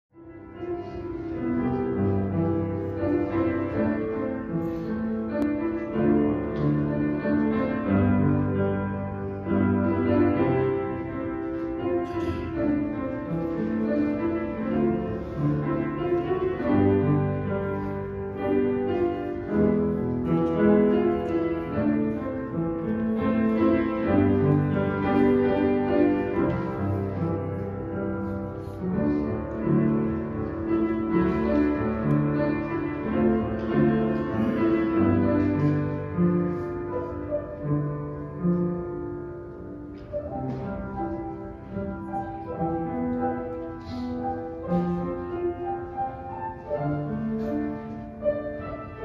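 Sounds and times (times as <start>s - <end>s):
slow piano music: 0.1s - 49.0s.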